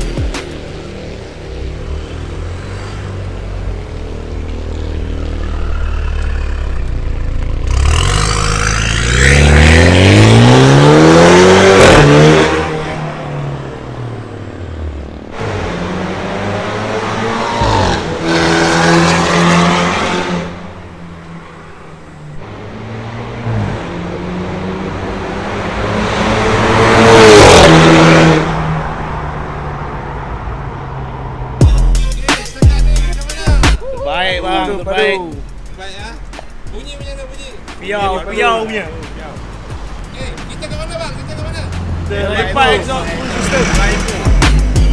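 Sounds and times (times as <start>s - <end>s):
car engine revving: 0.0s - 33.6s, 35.4s - 44.9s.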